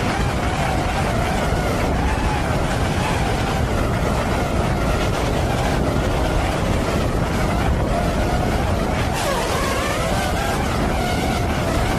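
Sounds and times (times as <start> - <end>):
drone motors whining: 0.0 - 11.9
wind on microphone: 0.0 - 11.9.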